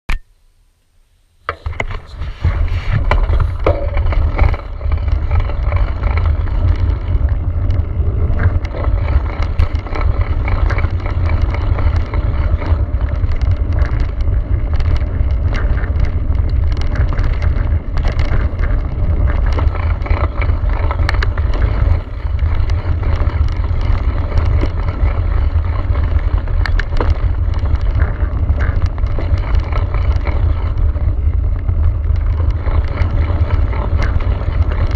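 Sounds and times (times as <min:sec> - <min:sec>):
bike tyres on dirt: 0:01.2 - 0:34.9
bike rattling over bumps: 0:01.4 - 0:34.9
wind buffeting microphone: 0:01.5 - 0:34.9.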